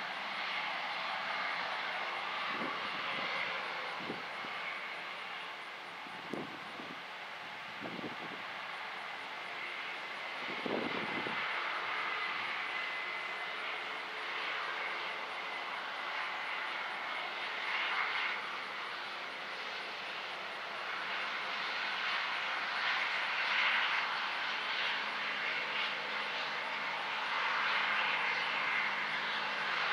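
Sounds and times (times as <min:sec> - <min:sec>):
diesel engine drone: 0:00.0 - 0:29.9.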